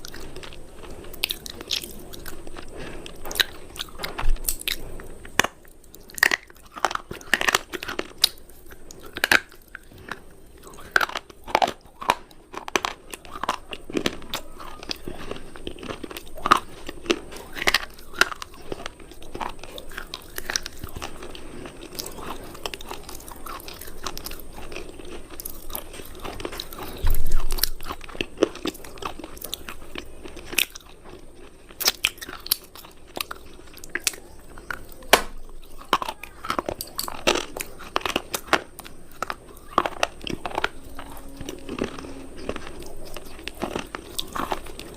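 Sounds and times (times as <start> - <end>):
crunching hard cubes: 0.0 - 44.9.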